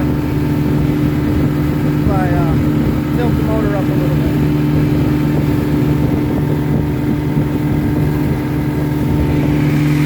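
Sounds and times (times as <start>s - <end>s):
outboard motor running steadily: 0.0s - 10.0s.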